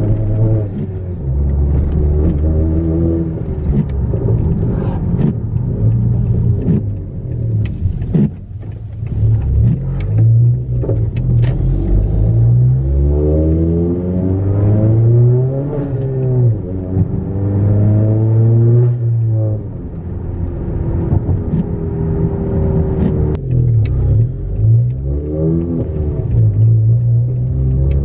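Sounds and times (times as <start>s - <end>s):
car engine and exhaust under load: 0.0s - 28.0s.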